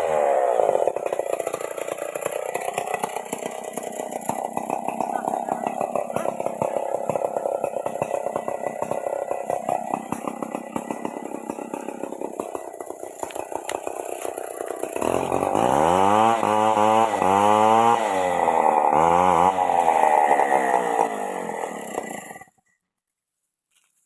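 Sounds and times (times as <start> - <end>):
chainsaw idling and revving: 0.0 - 22.6.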